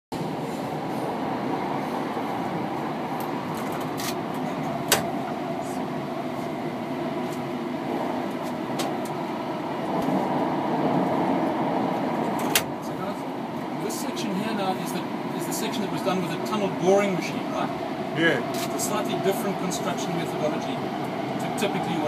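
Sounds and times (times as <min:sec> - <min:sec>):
train wheels rumbling on rail: 0:00.1 - 0:22.0.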